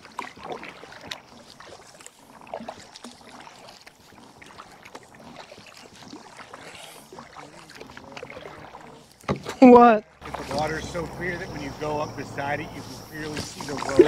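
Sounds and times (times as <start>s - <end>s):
paddle dips and drips: 0.0s - 14.0s.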